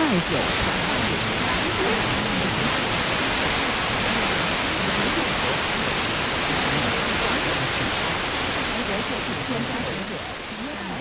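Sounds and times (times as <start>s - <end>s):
faint voice under radio noise: 0.0s - 11.0s
radio static hiss: 0.0s - 11.0s.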